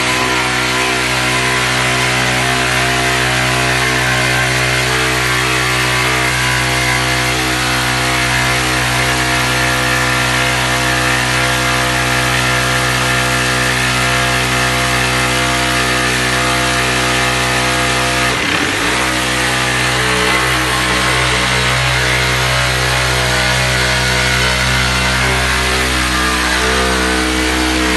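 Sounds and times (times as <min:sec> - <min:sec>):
jigsaw cutting wood: 0:00.0 - 0:27.9.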